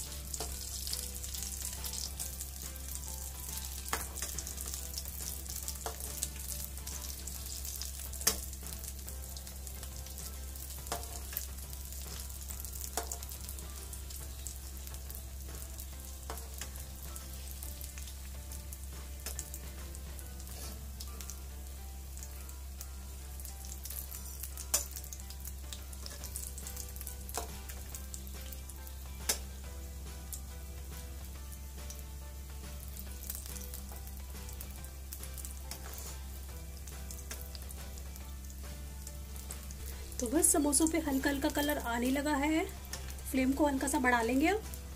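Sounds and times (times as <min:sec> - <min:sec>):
deep-frying sizzle: 0:00.0 - 0:44.9.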